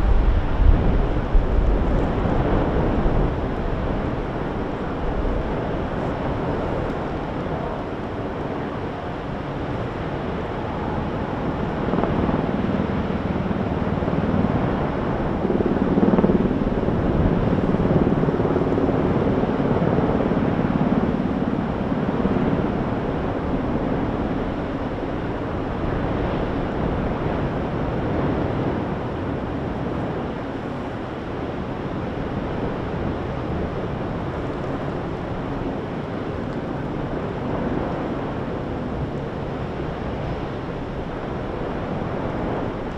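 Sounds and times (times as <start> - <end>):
lava fountain roaring: 0.0 - 42.9.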